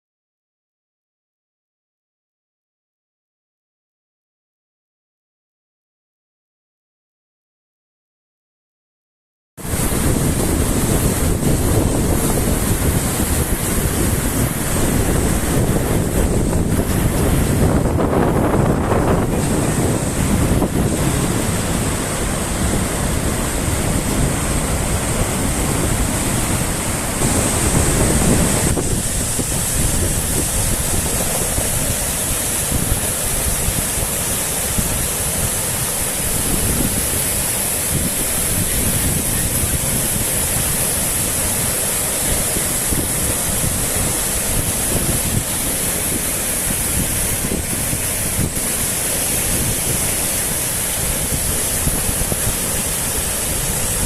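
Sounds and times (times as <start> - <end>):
surf: 9.6 - 54.0
water rushing through sand: 9.6 - 54.0
wind buffeting microphone: 9.6 - 54.0.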